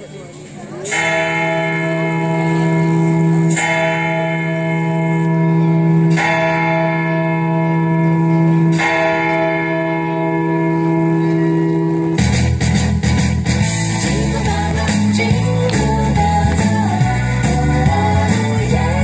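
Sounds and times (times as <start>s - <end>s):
bell tolling: 0.8s - 19.0s.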